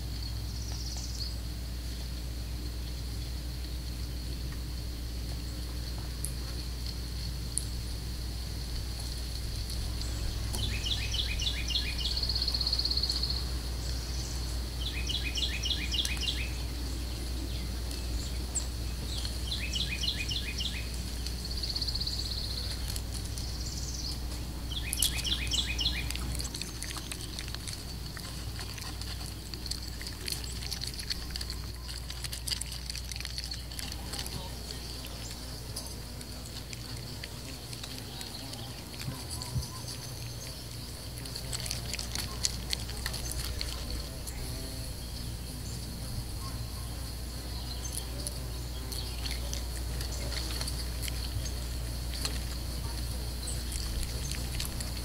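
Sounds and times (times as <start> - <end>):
steady high-pitched whine: 0.0 - 55.0.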